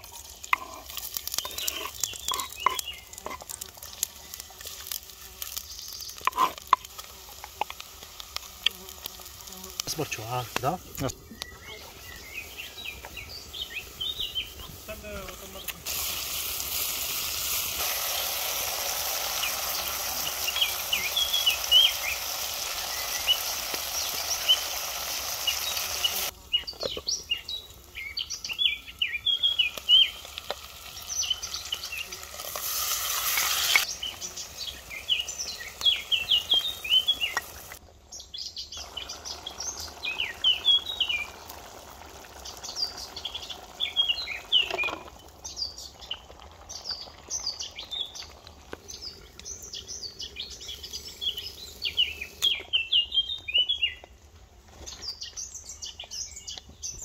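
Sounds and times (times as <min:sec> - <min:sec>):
food sizzling in a pot: 0:00.0 - 0:11.0, 0:11.8 - 0:26.4, 0:27.6 - 0:37.8, 0:38.8 - 0:53.0
birds chirping: 0:00.0 - 0:15.9, 0:16.8 - 0:54.2.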